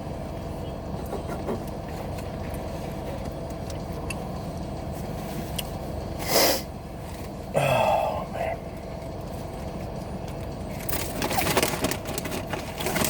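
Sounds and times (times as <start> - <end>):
car cabin rumble and hum: 0.0 - 13.0.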